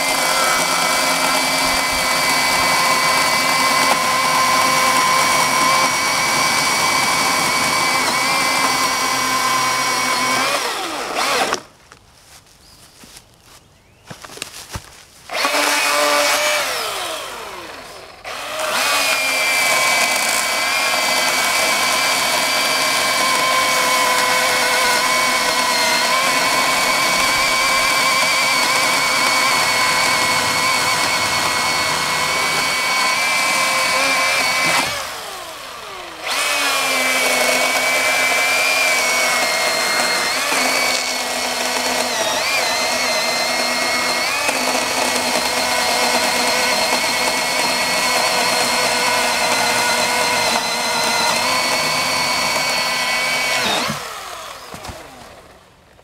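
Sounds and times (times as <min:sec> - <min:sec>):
chainsaw motor winding down: 0:00.0 - 0:11.7, 0:15.3 - 0:55.6
electric chainsaw cutting log: 0:00.0 - 0:11.8, 0:14.6 - 0:55.6.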